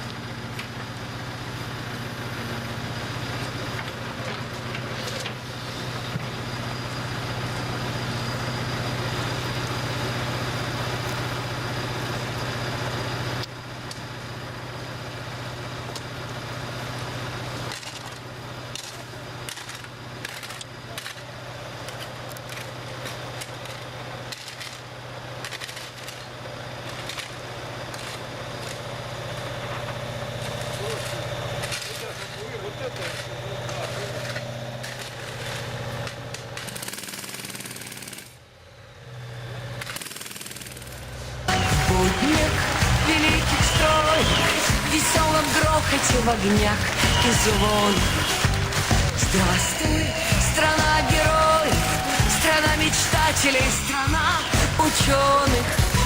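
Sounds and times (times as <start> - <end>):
work vehicle engine running: 0.0 - 56.0.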